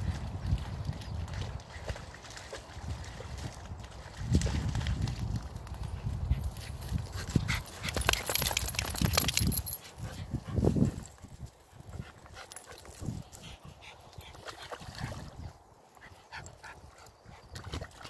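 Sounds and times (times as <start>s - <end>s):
wind rumble on microphone: 0.0s - 15.6s, 16.3s - 18.0s.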